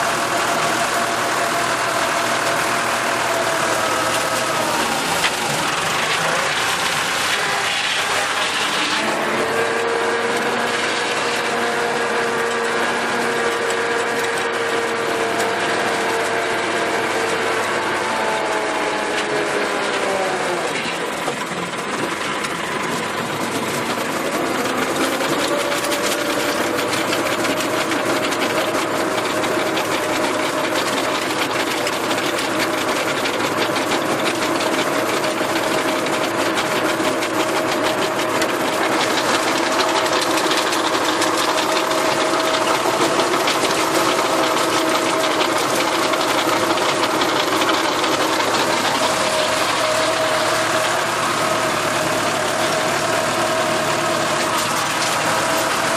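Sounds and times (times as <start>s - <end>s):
rotary tiller working: 0.0s - 55.9s
tractor diesel engine under load: 0.0s - 55.9s.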